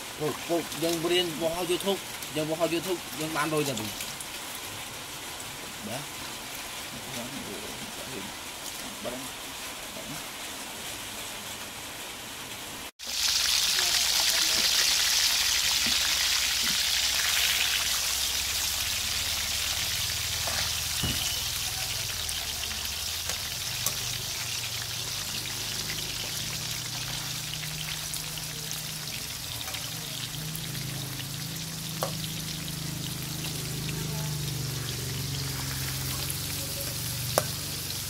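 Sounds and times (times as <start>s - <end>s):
frog pieces frying in oil: 0.0s - 38.0s.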